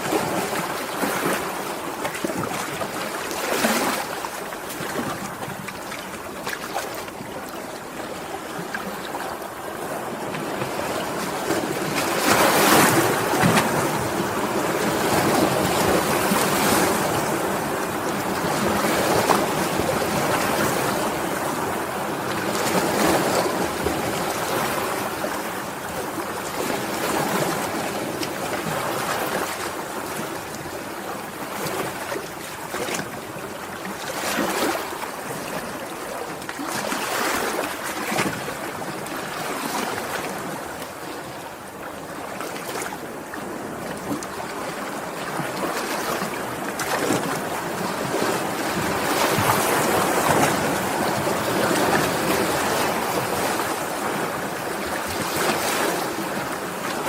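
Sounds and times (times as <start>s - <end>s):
sea waves washing in: 0.0s - 57.0s.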